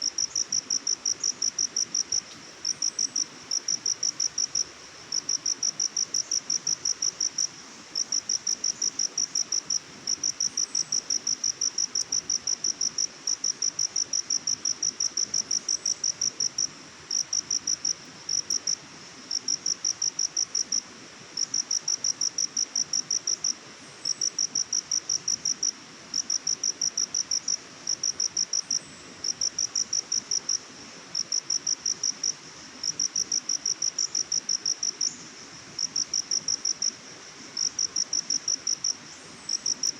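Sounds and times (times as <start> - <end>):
cricket chirping: 0.0 - 20.8, 21.4 - 30.6, 31.2 - 39.9
faint forest hiss: 0.0 - 39.9.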